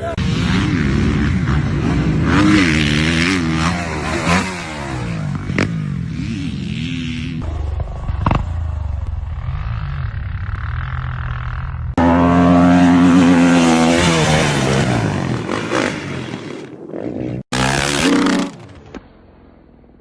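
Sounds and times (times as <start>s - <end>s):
dirt bike engine revving: 0.0s - 8.5s, 9.2s - 18.8s.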